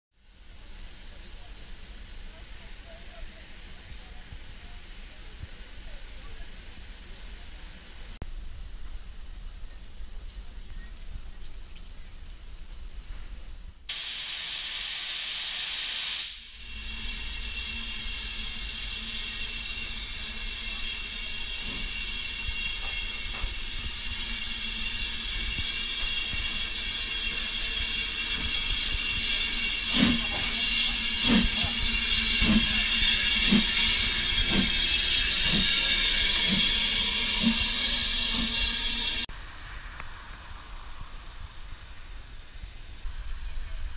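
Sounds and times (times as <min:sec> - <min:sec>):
steam locomotive hissing steam: 0:00.2 - 0:08.2, 0:13.9 - 0:43.9.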